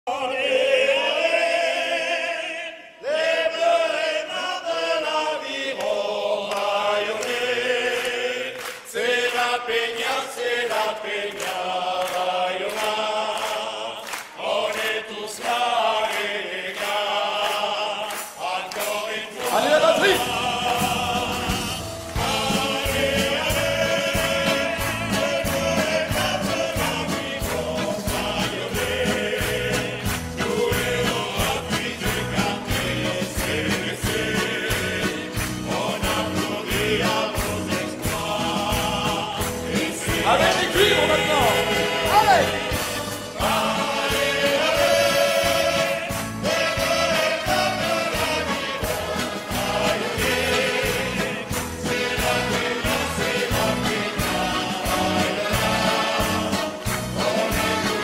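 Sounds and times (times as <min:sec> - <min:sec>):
male choir singing: 0:00.1 - 0:58.0
audience clapping in time: 0:05.7 - 0:58.0.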